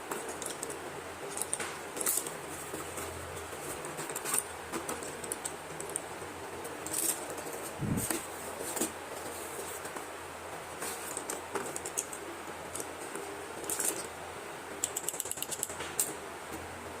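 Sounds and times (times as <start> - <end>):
pencils clicking and rattling: 0.0 - 10.0, 10.8 - 14.2, 14.8 - 16.2.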